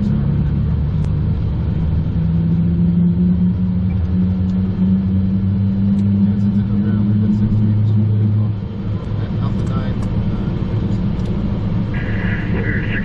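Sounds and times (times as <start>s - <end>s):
jet cockpit engine rumble and hum: 0.0s - 13.0s.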